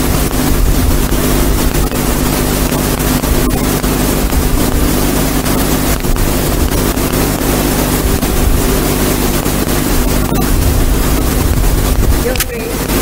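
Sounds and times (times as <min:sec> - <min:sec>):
constant low hum: 0:00.0 - 0:13.0
loud steady hiss: 0:00.0 - 0:13.0.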